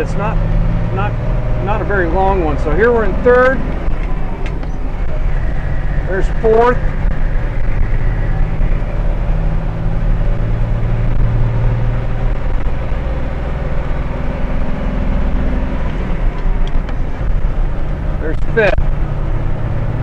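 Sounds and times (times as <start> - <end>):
diesel bus engine under load: 0.0 - 20.0
road and tyre noise: 0.0 - 20.0.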